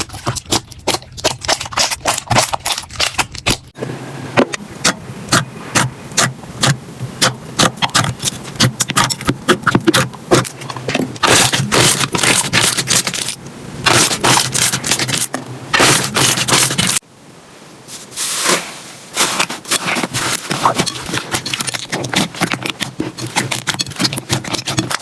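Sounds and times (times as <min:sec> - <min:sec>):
slime scraping: 0:00.0 - 0:03.8, 0:04.8 - 0:17.0, 0:17.9 - 0:25.0.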